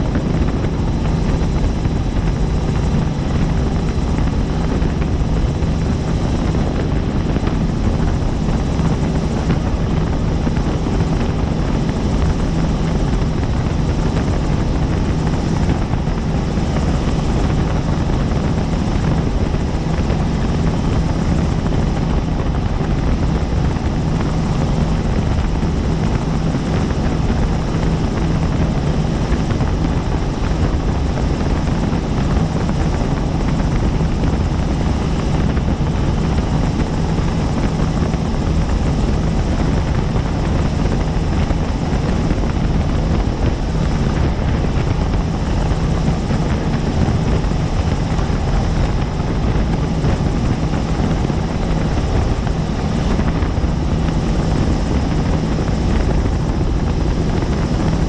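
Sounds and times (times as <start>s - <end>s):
helicopter rotor drone: 0.0s - 58.0s.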